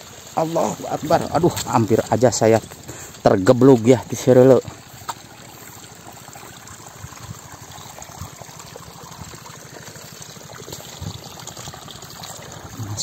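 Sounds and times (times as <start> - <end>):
running water: 0.0 - 13.0
water dripping: 0.0 - 13.0.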